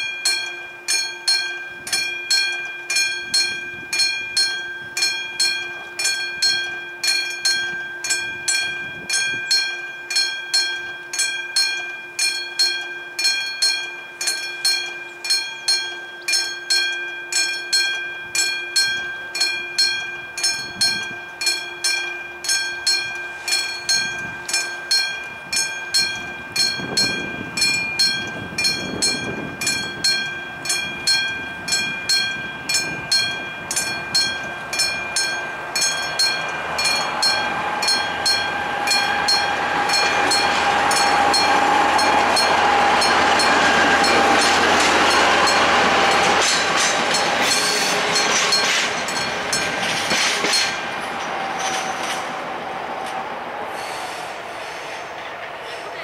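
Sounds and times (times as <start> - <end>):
level-crossing warning bell ringing: 0.0 - 56.0.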